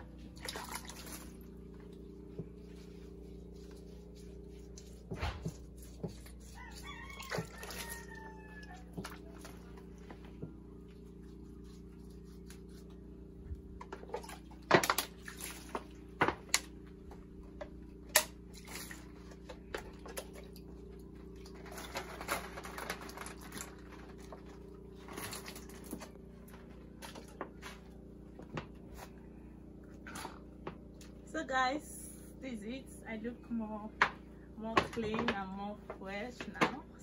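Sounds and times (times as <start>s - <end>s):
water sloshing in a bucket: 0.0s - 31.4s
steady low hum: 0.0s - 37.0s.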